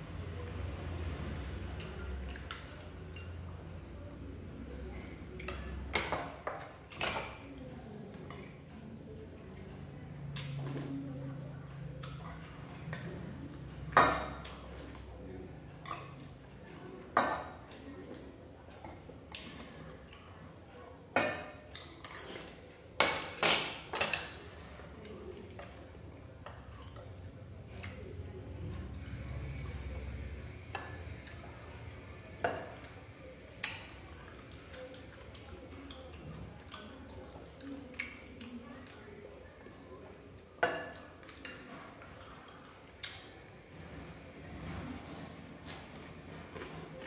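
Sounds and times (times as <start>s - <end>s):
close eating and chewing: 6.6s - 23.0s, 24.3s - 47.0s.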